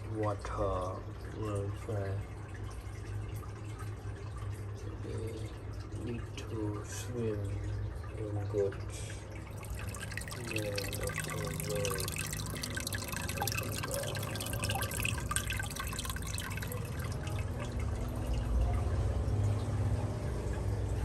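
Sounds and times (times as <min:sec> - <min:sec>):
low steady hum: 0:00.0 - 0:21.0
water dripping and trickling: 0:00.0 - 0:21.0.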